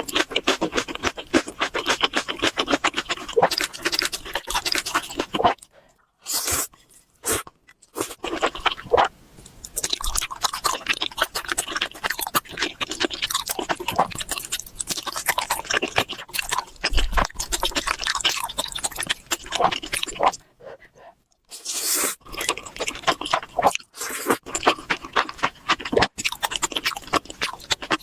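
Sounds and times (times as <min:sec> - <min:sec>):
chewing and crunching food: 0:00.0 - 0:28.0.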